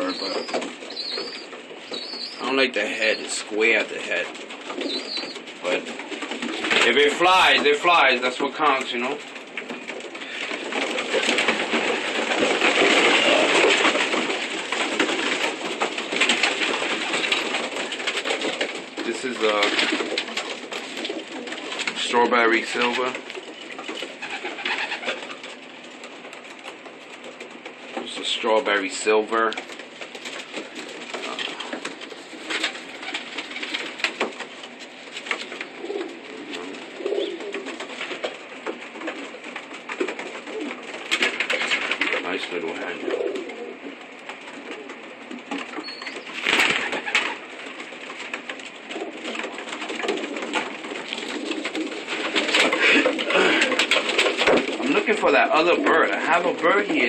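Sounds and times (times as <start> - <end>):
pigeon wings flapping: 0.0 - 57.0
pigeons scuffling: 0.0 - 57.0.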